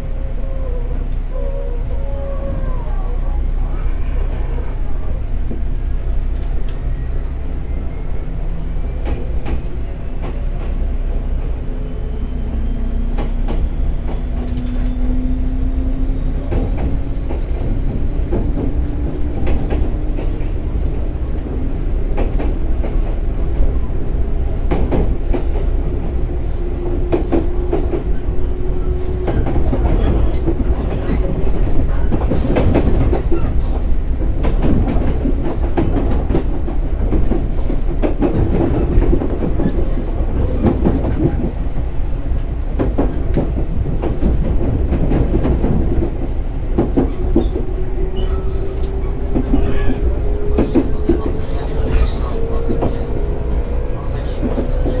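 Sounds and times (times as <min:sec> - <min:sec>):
low train rumble: 0:00.0 - 0:55.0
train motor and gear whine: 0:00.0 - 0:55.0.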